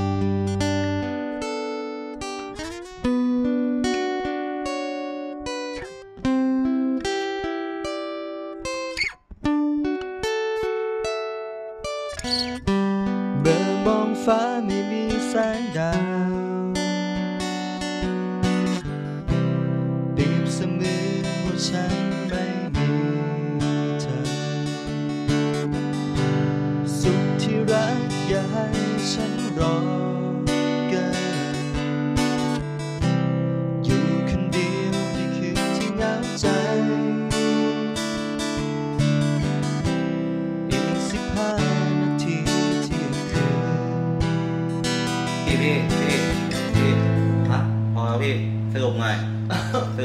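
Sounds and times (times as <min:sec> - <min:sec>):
guitar picked melody: 0:00.0 - 0:50.0.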